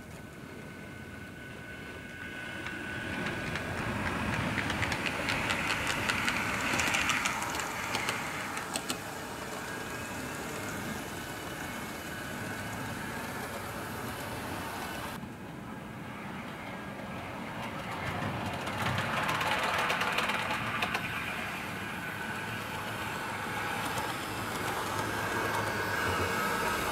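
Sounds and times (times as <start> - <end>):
model train motor whirring: 2.1 - 15.2, 17.9 - 26.9
wheels clicking over rail joints: 2.1 - 15.2, 17.4 - 26.9.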